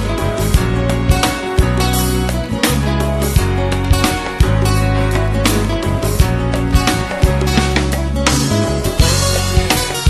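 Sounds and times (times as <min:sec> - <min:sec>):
song with bass and percussion: 0:00.0 - 0:10.0.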